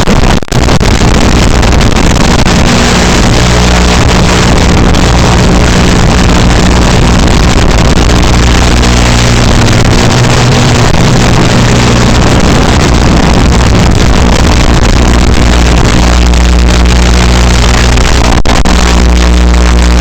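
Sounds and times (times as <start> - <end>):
drone propellers buzzing: 0.6 - 20.0.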